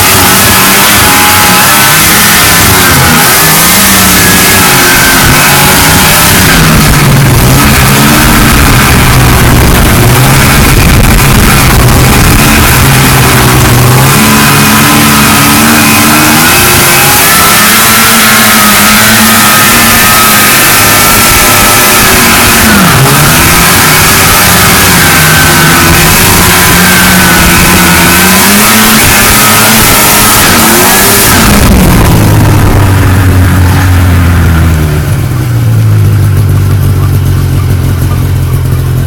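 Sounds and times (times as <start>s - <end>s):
snowmobile engine running: 0.0s - 39.0s.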